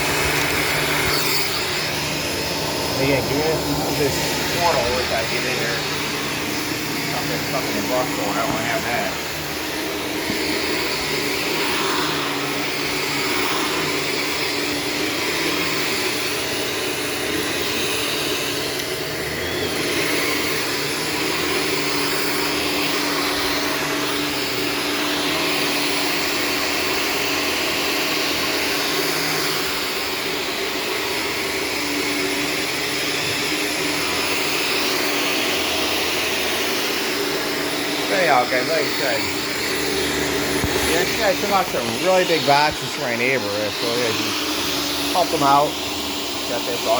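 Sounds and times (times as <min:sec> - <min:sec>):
upright vacuum cleaner running: 0:00.0 - 0:46.9.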